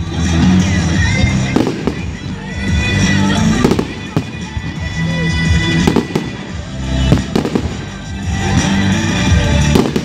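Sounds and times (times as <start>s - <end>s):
fireworks bursting with sharp bangs: 0.0s - 10.0s
loud music over sound system: 0.0s - 10.0s.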